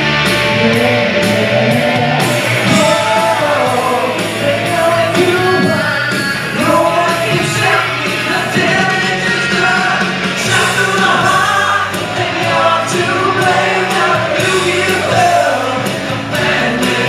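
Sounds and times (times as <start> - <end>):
loud rock band playing: 0.0 - 17.0
person singing into a microphone: 0.4 - 17.0.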